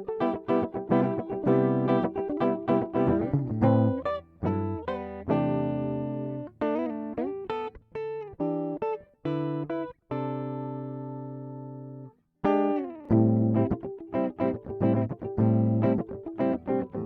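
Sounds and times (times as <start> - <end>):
plucked guitar notes: 0.0 - 17.0.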